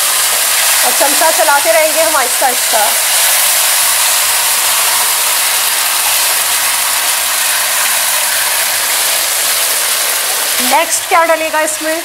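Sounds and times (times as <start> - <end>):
sauce sizzling in hot oil: 0.0 - 12.0.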